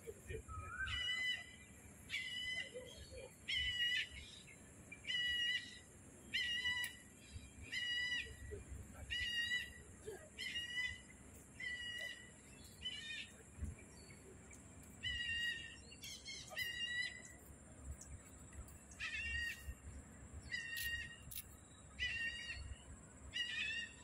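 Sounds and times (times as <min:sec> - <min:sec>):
bird calling: 0:00.0 - 0:24.0.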